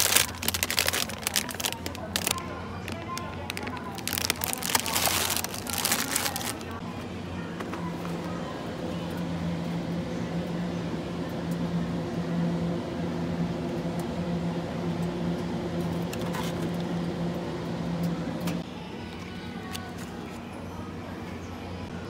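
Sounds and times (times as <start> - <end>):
freezer fans and compressor droning: 0.0 - 22.0.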